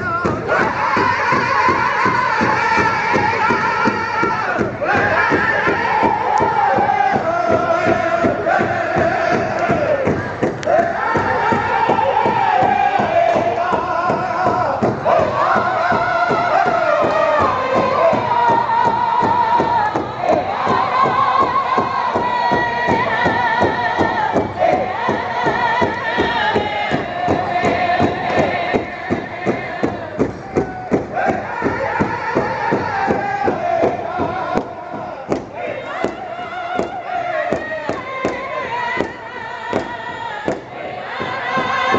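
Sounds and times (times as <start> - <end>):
group singing high-pitched in unison: 0.0 - 41.9
large drum beating fast: 0.0 - 41.9.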